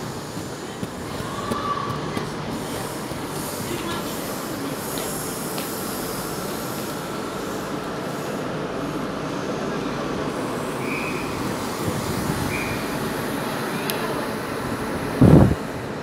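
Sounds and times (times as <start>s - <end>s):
train running on tracks: 0.0s - 16.0s.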